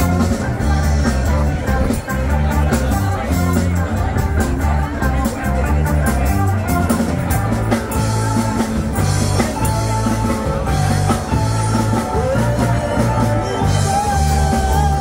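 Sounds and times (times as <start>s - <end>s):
bass line: 0.0s - 15.0s
drum kit: 0.0s - 15.0s
electric guitars: 0.0s - 15.0s.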